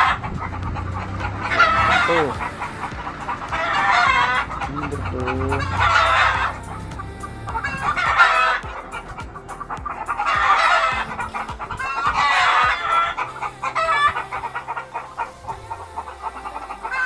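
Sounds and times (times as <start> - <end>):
rooster crowing: 0.0 - 6.8, 7.5 - 9.1, 10.1 - 15.5
chickens clucking: 0.0 - 17.0.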